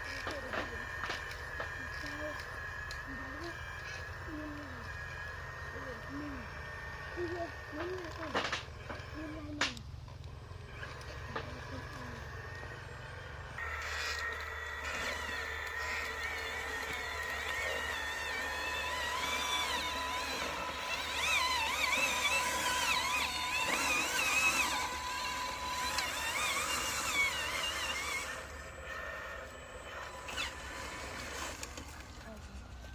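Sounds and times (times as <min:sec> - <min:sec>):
toy truck motor whining: 0:00.0 - 0:32.9.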